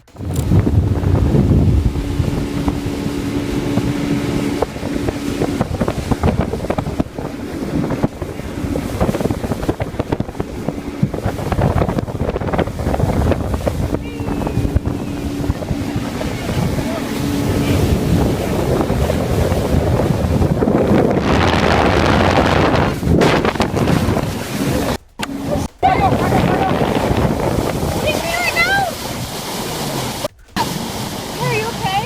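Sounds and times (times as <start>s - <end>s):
motorboat engine humming: 0.0s - 32.0s
wind buffeting microphone: 0.0s - 32.0s.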